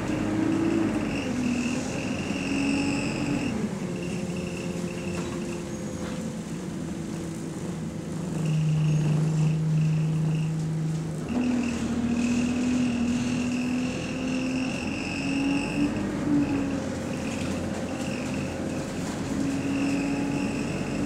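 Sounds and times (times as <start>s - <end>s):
bus engine drone: 0.0s - 21.0s
cooling fan whine: 0.0s - 21.0s.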